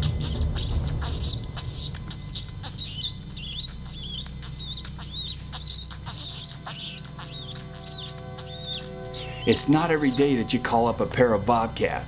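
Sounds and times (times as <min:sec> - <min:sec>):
high-pitched mouse squeaks: 0:00.0 - 0:10.5.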